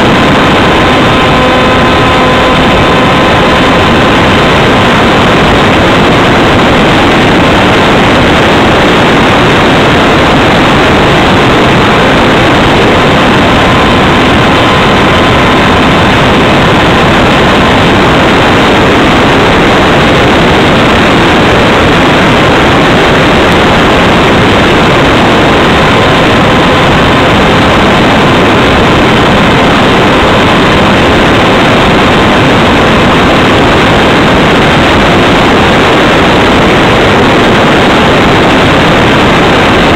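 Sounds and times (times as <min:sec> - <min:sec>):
faint motor and propeller whine: 0:00.0 - 0:39.9
wind rushing over camera: 0:00.0 - 0:39.9.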